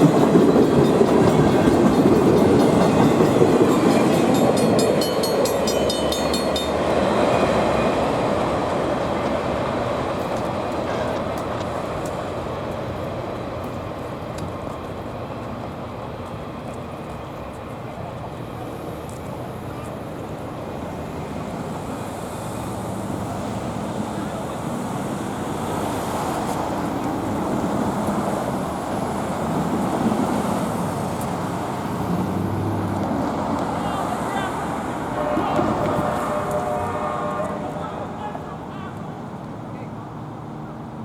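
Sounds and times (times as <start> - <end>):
train rumbling on rails: 0.0 - 41.0.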